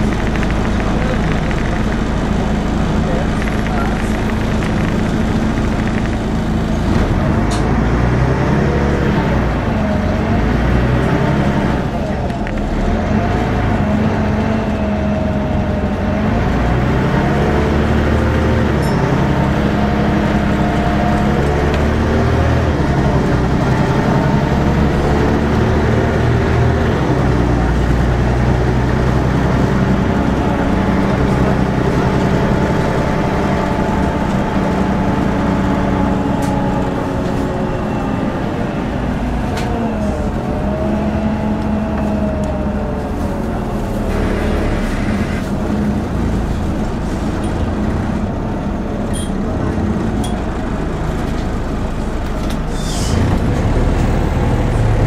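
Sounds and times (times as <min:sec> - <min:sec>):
bus diesel engine: 0:00.0 - 0:55.0
road noise: 0:00.0 - 0:55.0.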